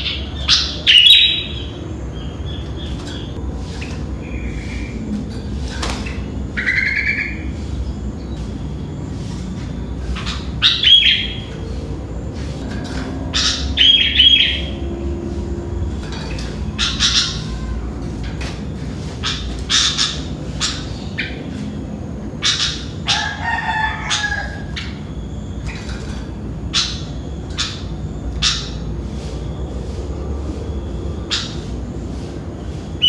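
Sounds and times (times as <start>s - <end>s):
bulbul calling: 0.0s - 3.4s, 6.1s - 17.9s, 18.7s - 32.1s
steady low hum: 0.0s - 33.0s.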